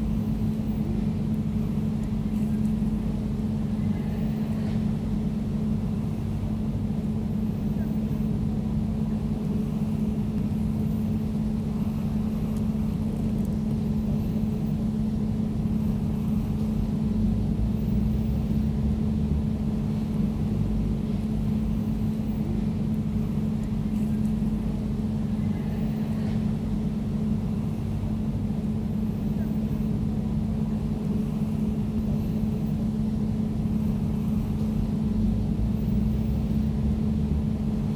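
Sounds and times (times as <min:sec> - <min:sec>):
air conditioner humming: 0:00.0 - 0:37.9.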